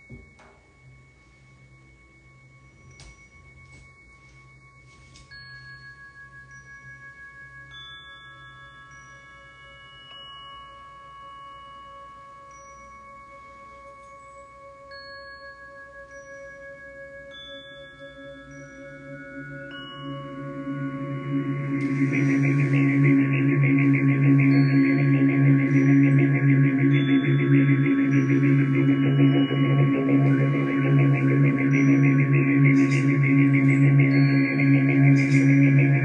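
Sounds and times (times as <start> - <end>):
ambient music of bell-like tones: 0.0 - 36.0.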